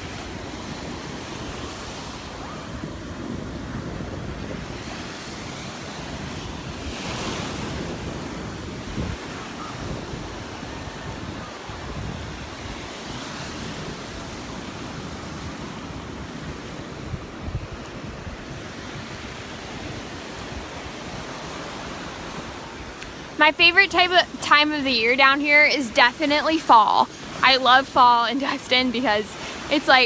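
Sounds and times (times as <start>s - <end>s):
surf breaking on beach: 0.0s - 30.0s
wind buffeting microphone: 0.0s - 30.0s.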